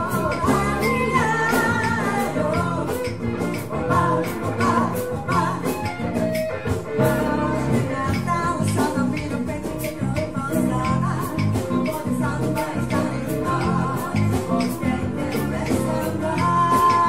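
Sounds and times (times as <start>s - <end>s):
live band playing latin song: 0.0s - 17.0s
woman singing: 0.0s - 17.0s.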